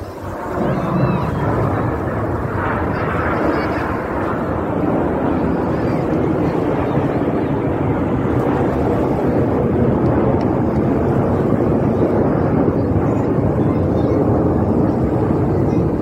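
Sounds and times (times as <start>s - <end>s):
jets roaring overhead: 0.0s - 16.0s.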